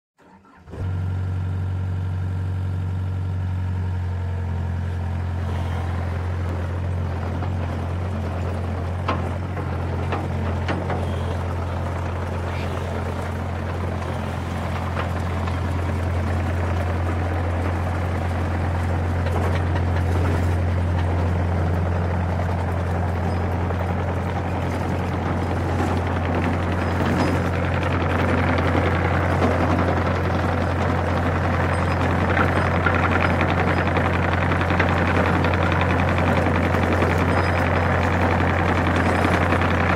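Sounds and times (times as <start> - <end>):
excavator diesel engine running: 0.2 - 39.9.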